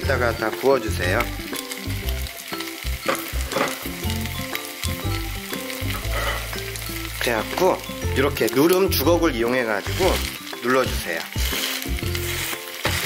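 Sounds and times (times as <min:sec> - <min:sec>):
background music with bass: 0:00.0 - 0:13.0
food sizzling in oil: 0:00.0 - 0:13.0.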